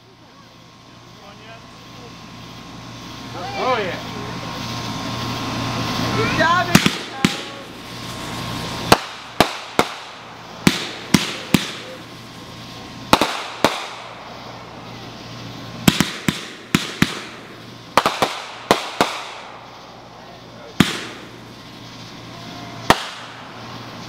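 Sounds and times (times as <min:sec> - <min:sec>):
background hiss: 0:00.0 - 0:24.0
fireworks bangs: 0:03.2 - 0:24.0.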